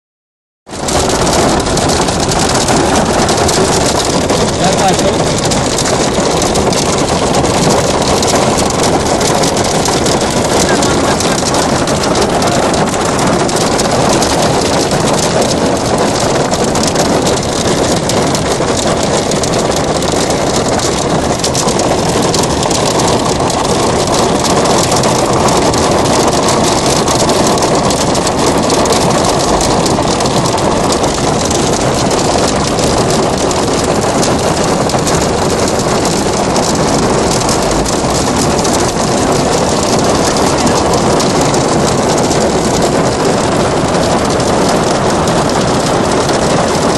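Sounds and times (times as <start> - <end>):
heavy hail clattering: 0.7 - 46.9.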